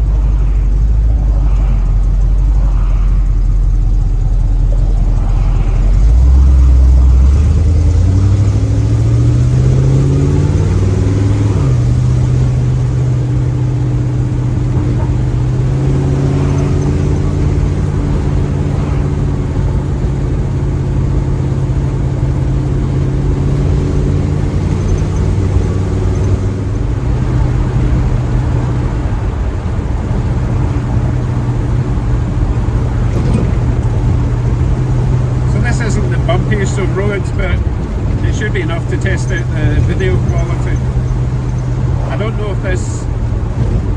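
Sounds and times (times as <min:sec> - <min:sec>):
car engine revving from cabin: 0:00.0 - 0:43.9.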